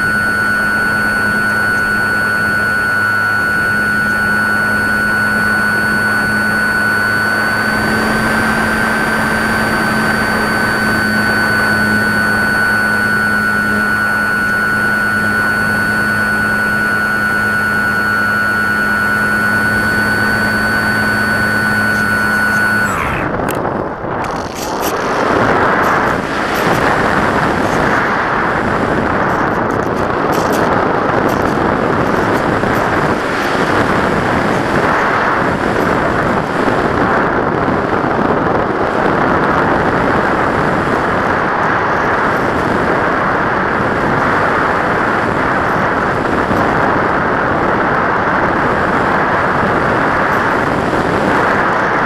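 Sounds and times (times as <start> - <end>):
model plane motor whining: 0.0 - 52.0
wind rushing over camera: 0.0 - 52.0.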